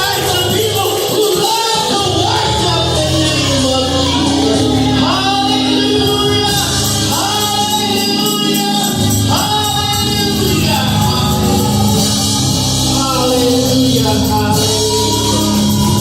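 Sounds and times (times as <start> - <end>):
gospel choir singing over a band: 0.0 - 16.0.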